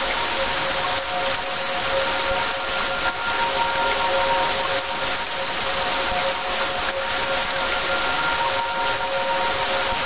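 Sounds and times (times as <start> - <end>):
heavy rainfall hissing: 0.0 - 10.0.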